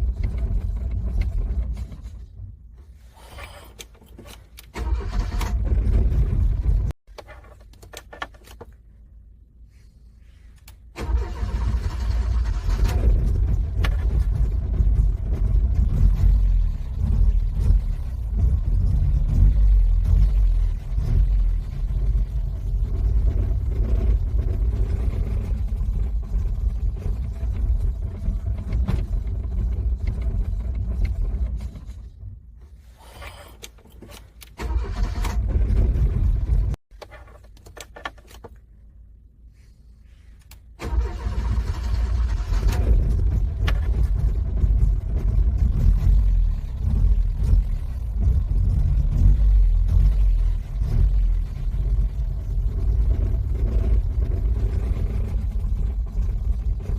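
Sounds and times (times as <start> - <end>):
car engine cranking: 0.0 - 8.8, 10.6 - 38.6, 40.5 - 56.9.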